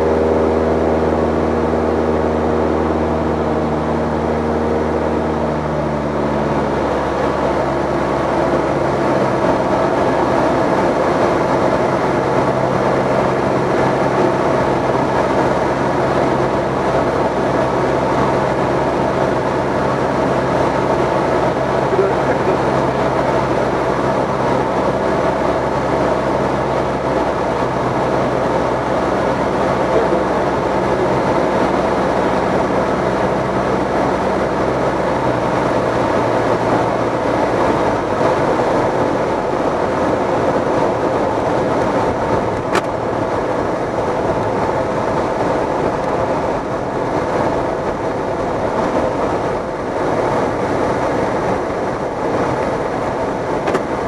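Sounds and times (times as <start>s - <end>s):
aircraft engine and propeller droning: 0.0s - 54.0s
rushing airflow: 6.6s - 54.0s.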